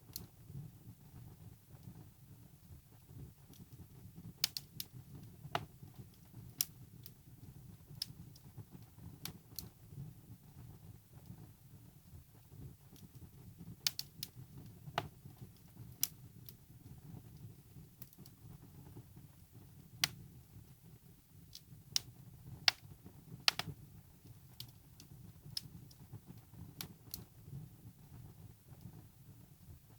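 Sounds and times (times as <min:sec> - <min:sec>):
wood fire crackling and popping: 0:00.0 - 0:29.9
low rumble of flames: 0:00.1 - 0:29.9.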